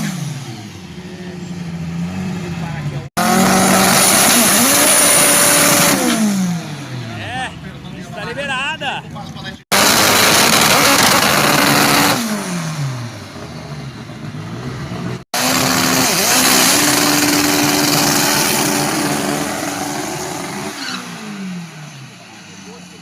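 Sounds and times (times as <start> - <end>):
drag car engine at high revs: 0.0 - 7.4, 9.4 - 23.0.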